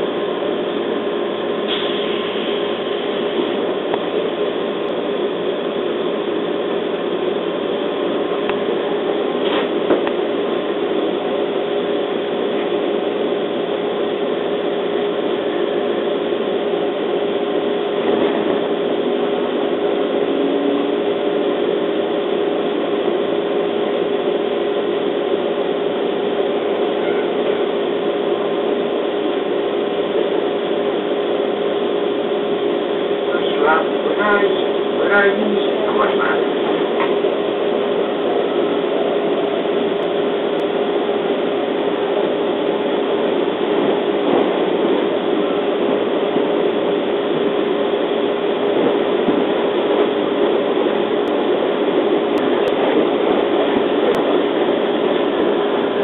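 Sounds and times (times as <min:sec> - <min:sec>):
electric train hum: 0:00.0 - 0:56.0
train car rumble: 0:00.0 - 0:56.0.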